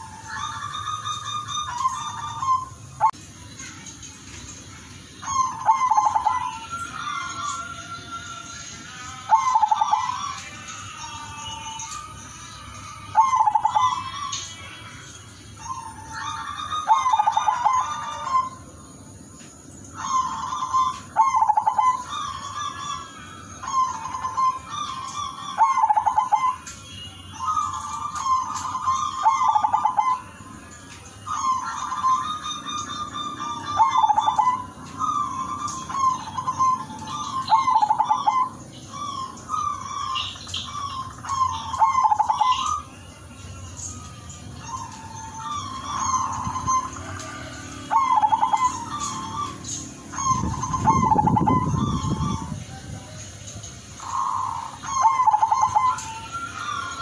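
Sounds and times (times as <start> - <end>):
dove cooing with trills: 0.0 - 3.2, 5.0 - 8.2, 8.9 - 12.0, 12.7 - 14.8, 15.5 - 57.0.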